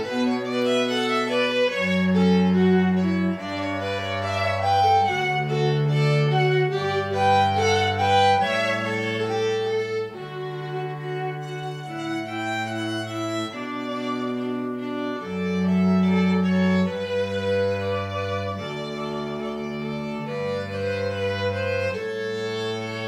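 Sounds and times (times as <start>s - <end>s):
string trio bowed chords: 0.0s - 23.0s.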